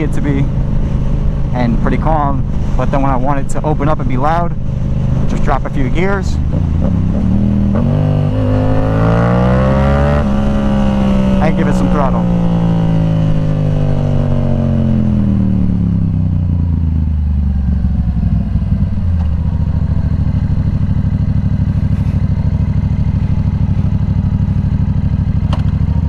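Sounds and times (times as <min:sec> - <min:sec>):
motorcycle engine revving down and idling: 0:00.0 - 0:26.0.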